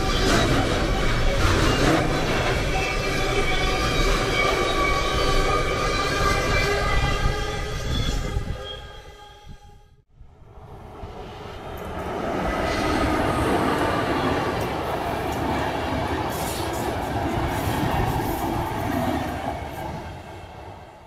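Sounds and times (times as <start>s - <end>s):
train wheels rumbling on rails: 0.0s - 9.2s, 10.5s - 21.0s.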